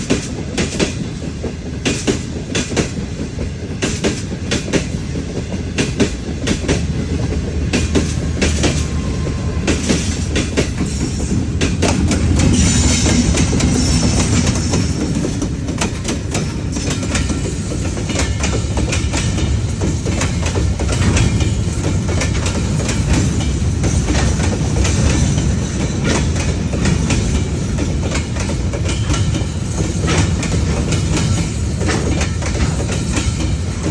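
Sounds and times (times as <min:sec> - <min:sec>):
train wheels clacking: 0:00.0 - 0:33.9.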